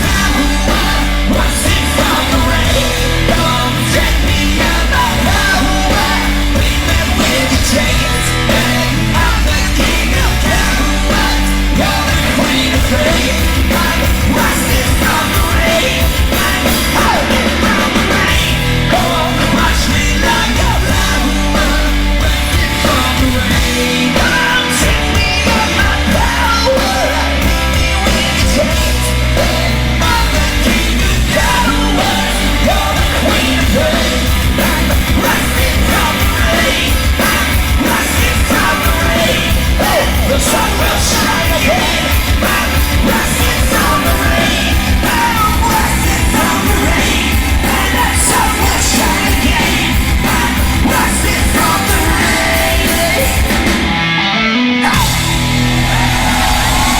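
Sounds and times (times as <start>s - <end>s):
person shouting singing: 0.0s - 53.7s, 54.5s - 56.9s
punk rock band playing: 0.0s - 56.9s.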